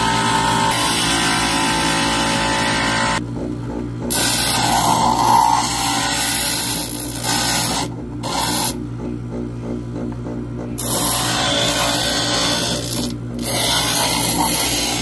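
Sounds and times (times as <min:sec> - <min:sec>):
glass grinder rasping: 0:00.0 - 0:03.2, 0:04.1 - 0:08.8, 0:10.8 - 0:15.0
grinder motor hum: 0:00.0 - 0:15.0.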